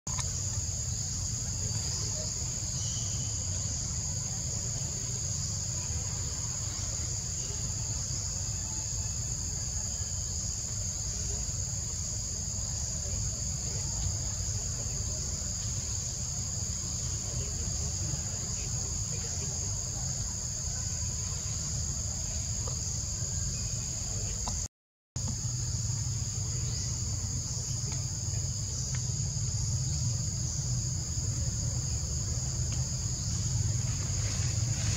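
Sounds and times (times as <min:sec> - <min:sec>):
shrill insect chorus: 0:00.1 - 0:34.9.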